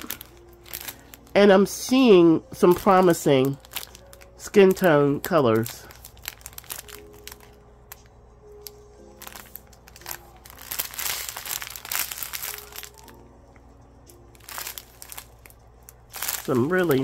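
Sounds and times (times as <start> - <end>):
plastic bags crinkling: 0.0 - 17.0
quiet background music: 0.0 - 17.0.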